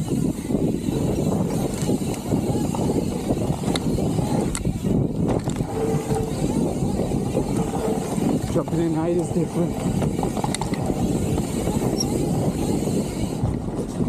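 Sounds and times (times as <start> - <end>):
bike rattling: 0.0 - 14.0
bike tyres rumbling on dirt: 0.0 - 14.0.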